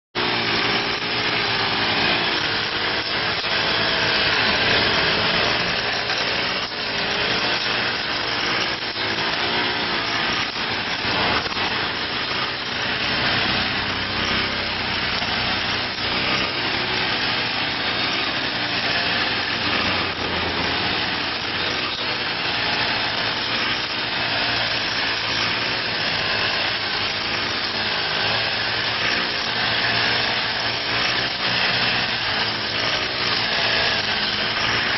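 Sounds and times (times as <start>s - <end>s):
brush cutter engine running: 0.2s - 34.9s.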